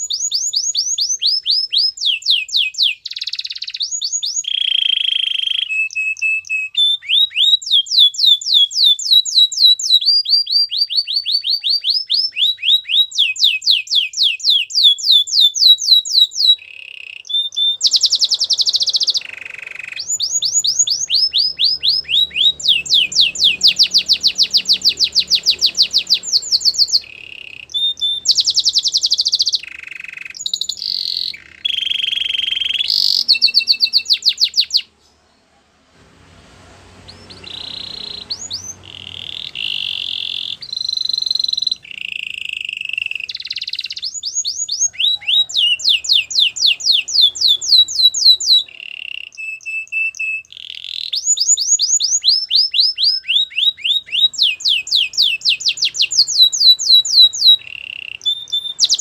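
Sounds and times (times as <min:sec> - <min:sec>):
canary singing: 0:00.0 - 0:35.6, 0:36.8 - 0:59.0.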